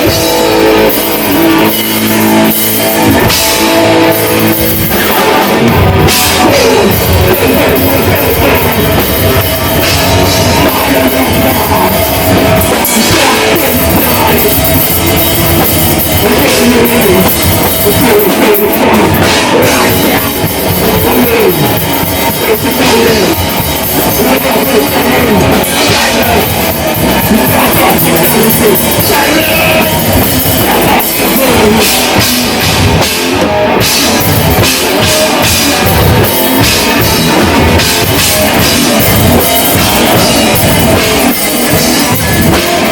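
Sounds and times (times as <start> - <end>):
busy drum kit: 0.0 - 42.9
distorted guitars: 0.0 - 42.9.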